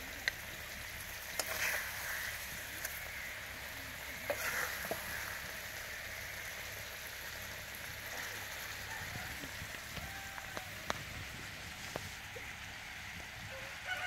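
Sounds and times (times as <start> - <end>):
curry simmering hiss: 0.0 - 14.0.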